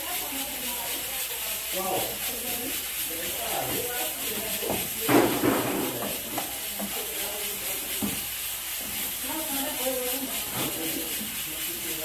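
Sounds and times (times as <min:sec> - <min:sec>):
greens sizzling in hot oil: 0:00.0 - 0:12.0
wooden spoon stirring in pan: 0:00.0 - 0:12.0.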